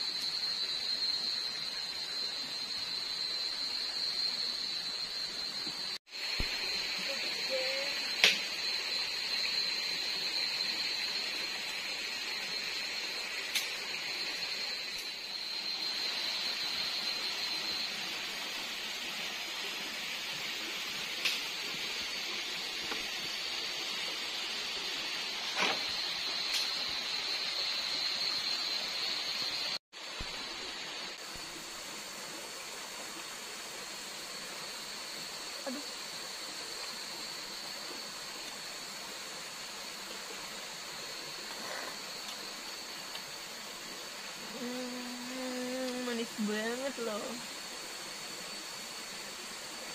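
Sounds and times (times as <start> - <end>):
even hiss: 0.0 - 49.9.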